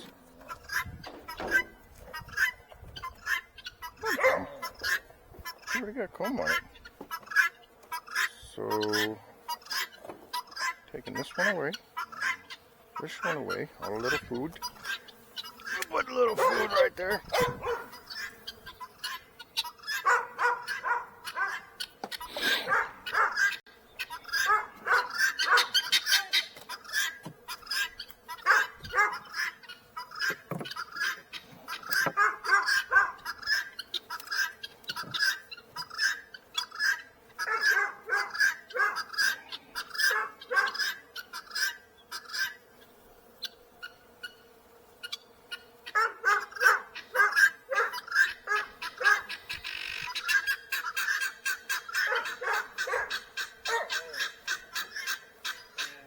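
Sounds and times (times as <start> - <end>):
domestic fowl calling: 0.0 - 56.0.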